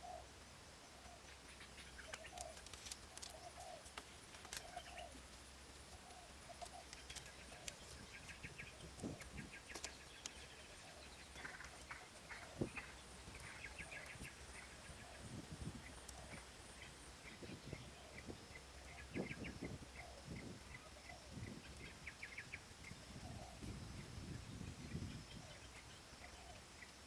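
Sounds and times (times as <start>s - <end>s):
low bird calls: 0.0s - 27.0s.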